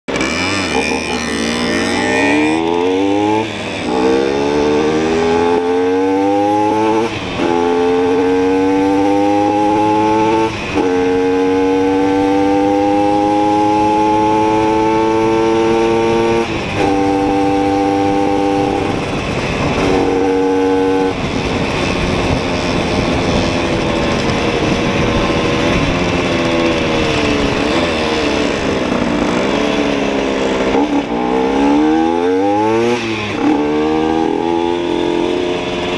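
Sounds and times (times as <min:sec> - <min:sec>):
road noise: 0:00.0 - 0:35.9
moped engine accelerating: 0:00.1 - 0:35.9.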